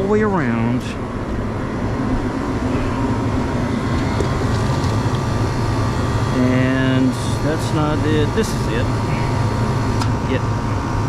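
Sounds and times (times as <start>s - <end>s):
condensing unit hum and fan: 0.0s - 11.0s.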